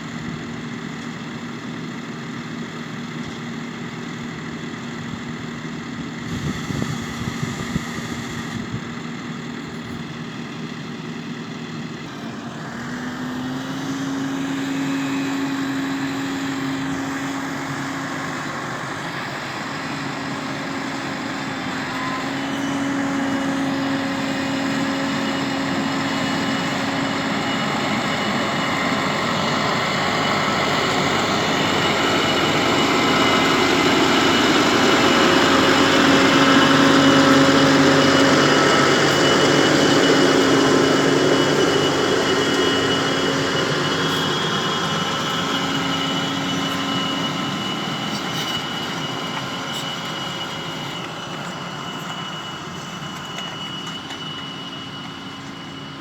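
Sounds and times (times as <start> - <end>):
tractor engine running: 0.0 - 56.0
machinery noise: 5.6 - 56.0.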